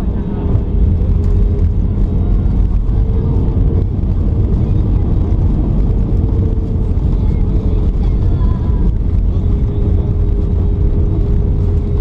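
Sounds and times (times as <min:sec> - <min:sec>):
jet engines rumbling: 0:00.0 - 0:12.0
wheels running on runway: 0:00.0 - 0:12.0.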